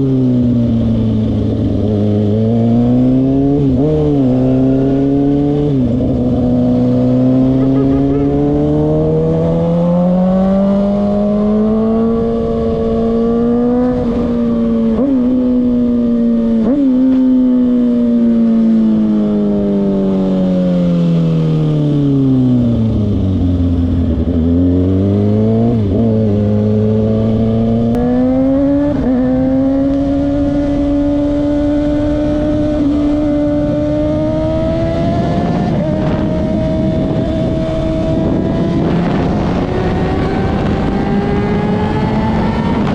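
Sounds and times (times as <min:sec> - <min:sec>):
motorcycle engine: 0:00.0 - 0:42.9.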